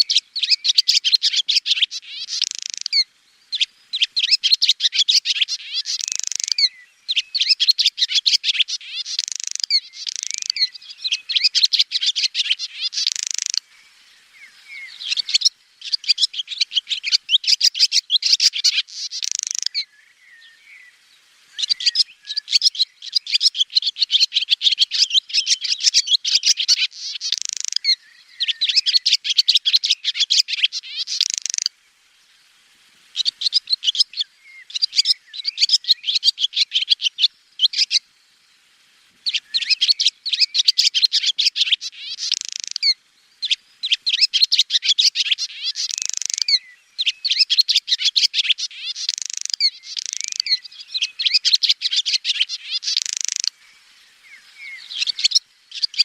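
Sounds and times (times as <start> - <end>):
swallow twittering: 0.0 - 31.8, 33.1 - 38.0, 39.2 - 56.0.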